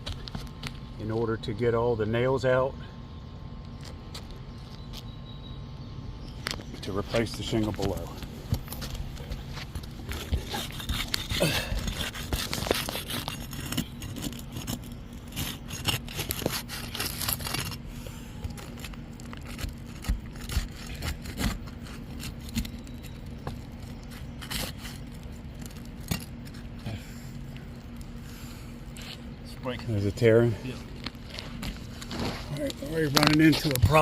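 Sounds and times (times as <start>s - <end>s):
roof shingles scraping and crackling: 6.6s - 34.0s.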